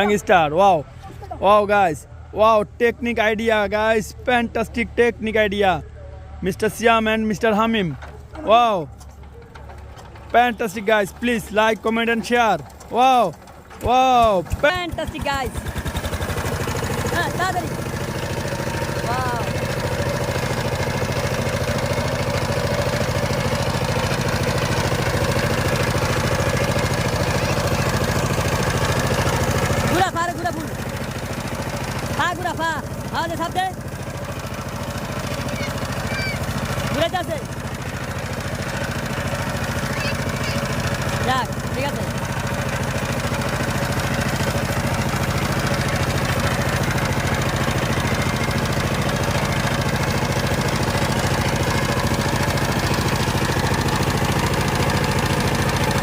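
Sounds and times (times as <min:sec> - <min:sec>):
diesel tiller engine running: 0:00.0 - 0:56.0.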